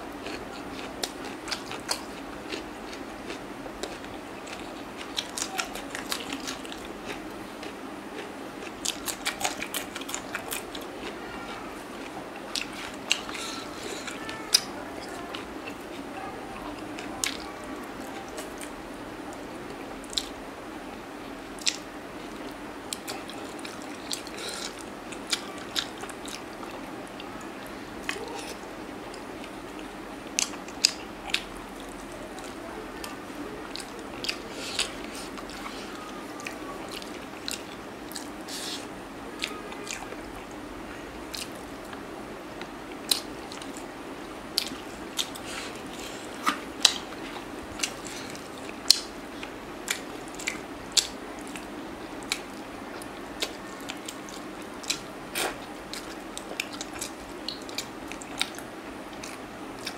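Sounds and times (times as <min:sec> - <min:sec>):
person chewing food: 0:00.1 - 0:18.8, 0:19.7 - 0:20.4, 0:21.6 - 0:40.6, 0:41.3 - 0:59.9.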